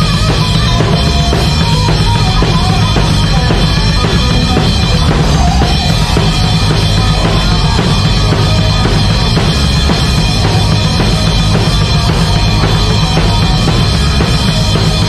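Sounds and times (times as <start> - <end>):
bass drum: 0.0 - 15.0
crashing cymbals: 0.0 - 15.0
heavy metal band playing: 0.0 - 15.0.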